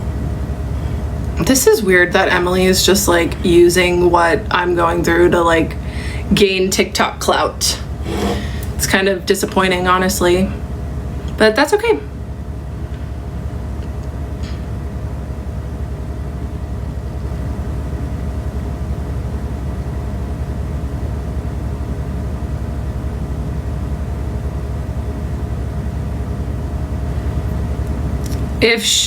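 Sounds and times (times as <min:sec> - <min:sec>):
faint hum tones: 0:00.0 - 0:29.0.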